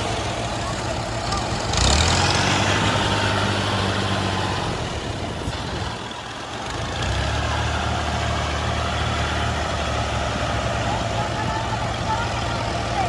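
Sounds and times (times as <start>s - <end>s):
heavy diesel engine running hard: 0.0s - 13.0s.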